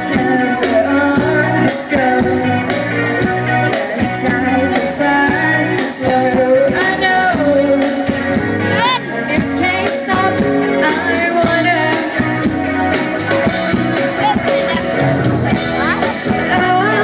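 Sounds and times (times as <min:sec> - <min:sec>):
person singing lead vocal: 0:00.0 - 0:12.5, 0:13.3 - 0:17.0
bass: 0:00.0 - 0:17.0
steady drum beat: 0:00.0 - 0:17.0.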